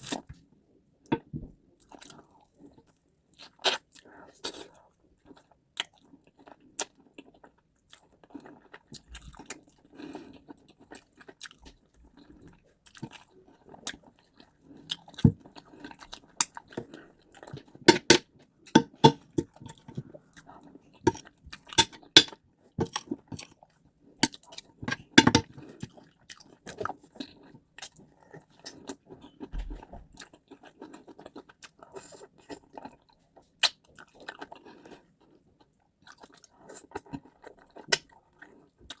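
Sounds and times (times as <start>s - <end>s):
person chewing food: 0.0s - 0.4s, 1.1s - 39.0s.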